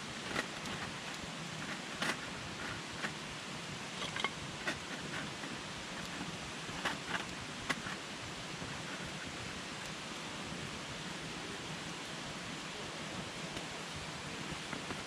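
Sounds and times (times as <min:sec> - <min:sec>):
campfire crackling: 0:00.0 - 0:15.0
campfire hissing: 0:00.0 - 0:15.0.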